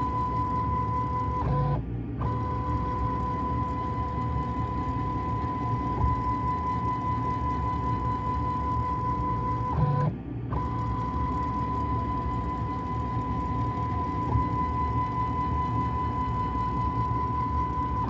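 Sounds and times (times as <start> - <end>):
stepper motors whining: 0.0 - 18.0.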